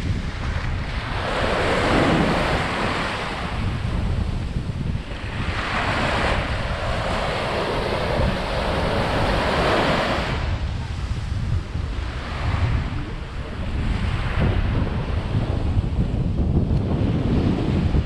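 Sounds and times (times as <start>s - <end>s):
small waves washing on sand: 0.0s - 18.0s
wind buffeting microphone: 0.0s - 18.0s.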